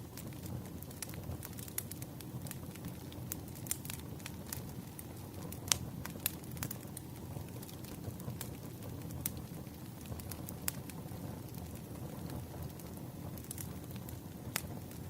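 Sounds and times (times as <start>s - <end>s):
campfire burning and crackling: 0.0s - 15.0s
fire popping: 0.0s - 15.0s.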